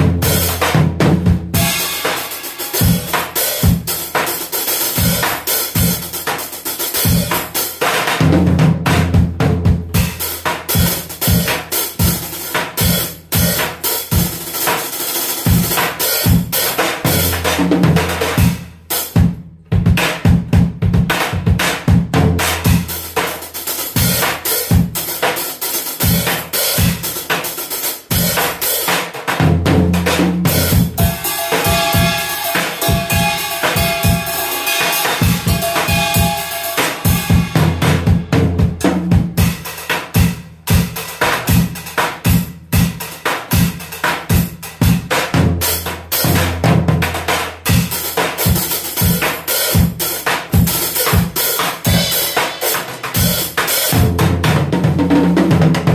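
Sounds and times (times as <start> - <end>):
drum kit playing: 0.0 - 55.9.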